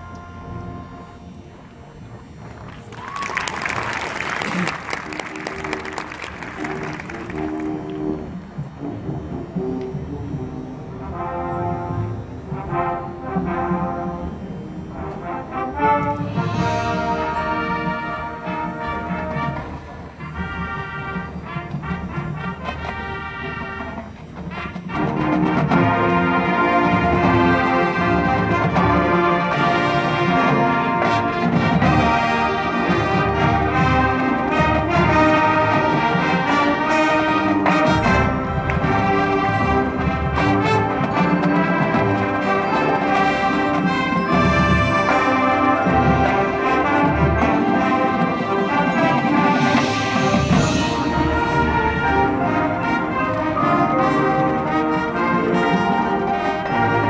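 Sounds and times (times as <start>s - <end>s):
brass chords: 0.0s - 2.7s, 3.7s - 57.0s.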